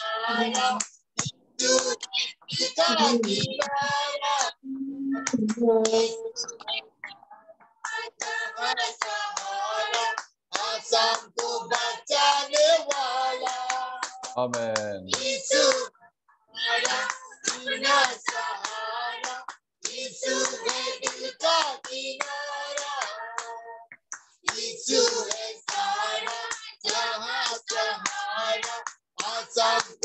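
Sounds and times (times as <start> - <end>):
women singing together: 0.0 - 14.3, 15.1 - 15.9, 16.5 - 23.8, 24.5 - 30.0
hands clapping: 0.3 - 4.6, 5.2 - 15.9, 16.6 - 30.0.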